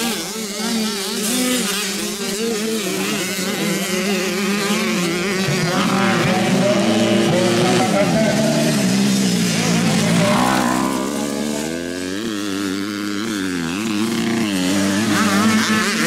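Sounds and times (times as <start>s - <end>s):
motocross engines revving: 0.0s - 16.0s.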